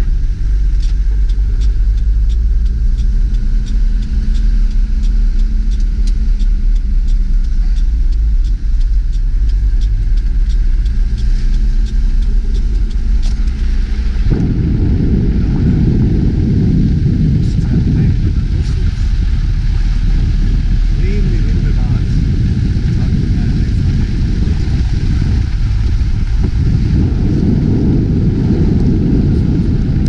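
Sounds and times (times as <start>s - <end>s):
light regular ticking: 0.0s - 30.0s
rough low rumble: 0.0s - 30.0s
vehicle engine droning: 0.0s - 30.0s.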